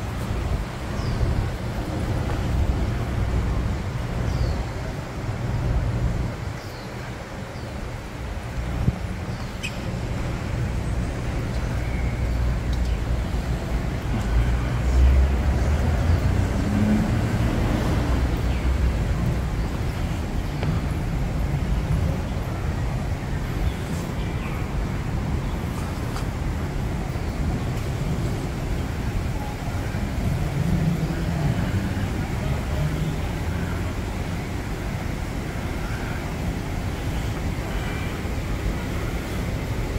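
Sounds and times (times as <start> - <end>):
faint voices of passers-by: 0.0 - 39.9
road traffic rumble: 0.0 - 39.9.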